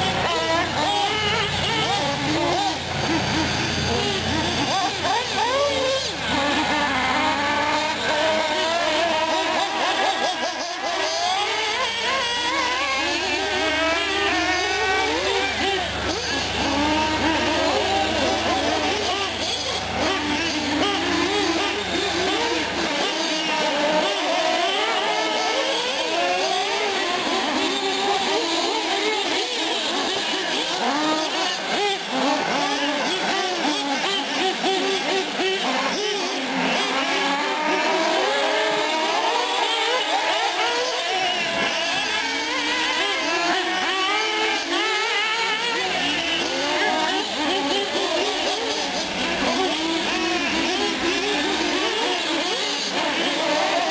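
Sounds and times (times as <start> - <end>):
rc truck engines whining: 0.0 - 53.9.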